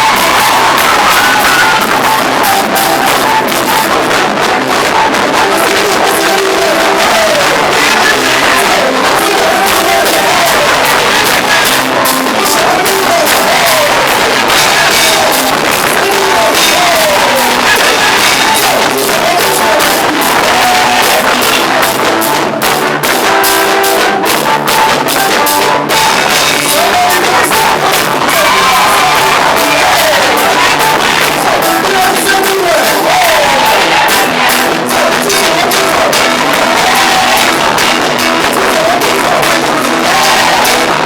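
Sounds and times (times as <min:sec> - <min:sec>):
drum beat: 0:00.0 - 0:41.0
voices singing: 0:00.0 - 0:41.0.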